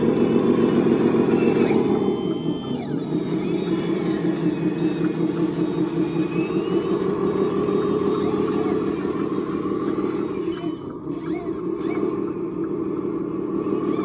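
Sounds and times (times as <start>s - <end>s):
model motor and gear drive humming: 0.0s - 14.0s.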